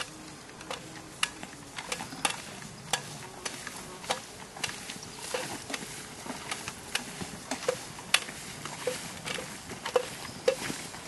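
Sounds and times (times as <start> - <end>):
gear clicks and metallic clinks: 0.0 - 11.0
grass rustling against legs: 0.0 - 11.0.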